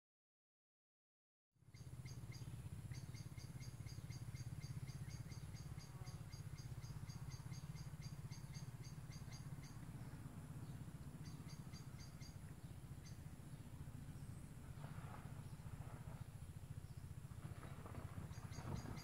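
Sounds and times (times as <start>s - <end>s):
steady low hum: 1.7s - 19.0s.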